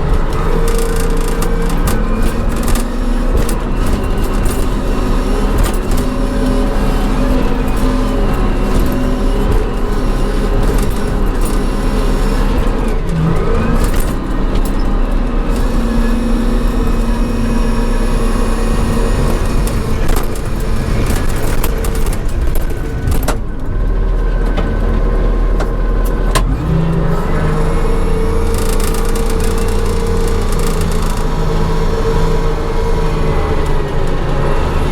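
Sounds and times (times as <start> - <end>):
diesel engine running under load: 0.0 - 34.9.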